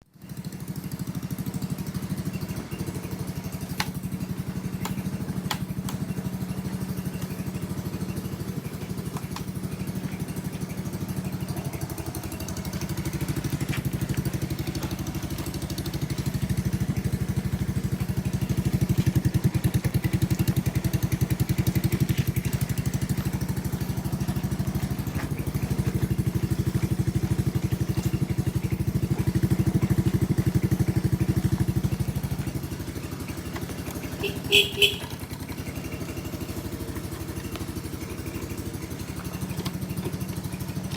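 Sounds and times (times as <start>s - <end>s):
motorcycle engine idling: 0.1s - 40.9s.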